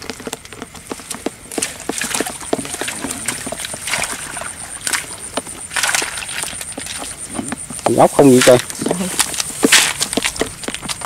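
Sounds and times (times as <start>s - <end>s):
snails clicking and knocking: 0.0s - 11.0s.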